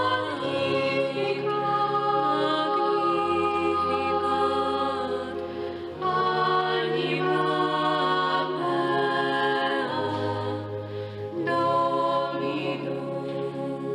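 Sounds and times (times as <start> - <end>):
slow choral-style music: 0.0 - 13.9.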